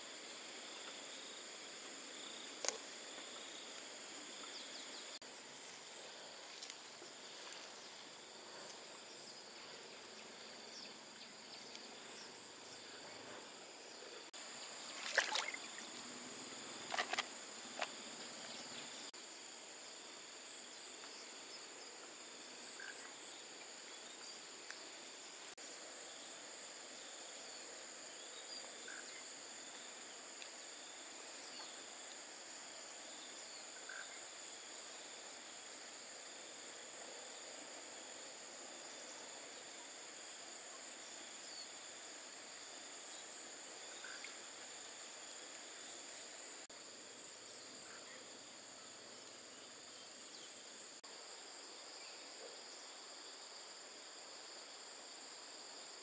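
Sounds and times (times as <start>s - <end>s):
faint outdoor hiss: 0.0s - 56.0s
insects droning: 0.0s - 56.0s.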